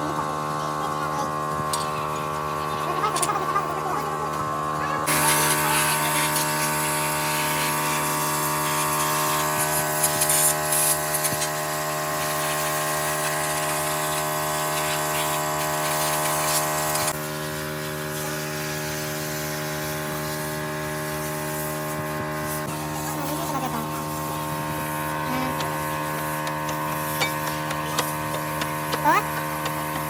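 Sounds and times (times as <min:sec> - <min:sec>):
power tool hissing: 0:00.0 - 0:30.0.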